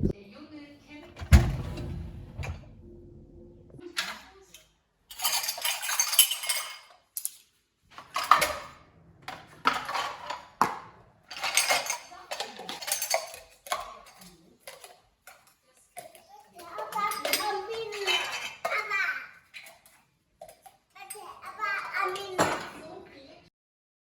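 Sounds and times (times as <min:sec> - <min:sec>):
dishes and cutlery clattering: 0:03.9 - 0:23.1.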